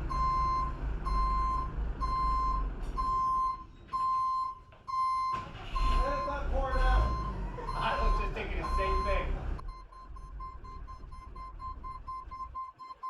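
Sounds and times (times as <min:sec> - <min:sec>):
low engine rumble: 0:00.0 - 0:13.0
back-up alarm beeping: 0:00.1 - 0:13.0.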